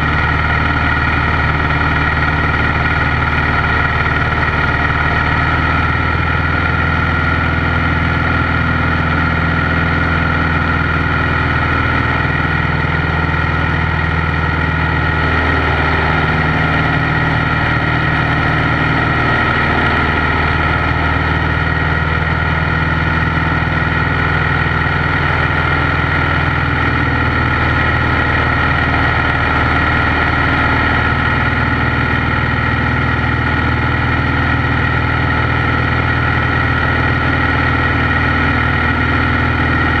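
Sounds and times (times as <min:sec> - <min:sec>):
airplane engine and propeller: 0:00.0 - 0:40.0.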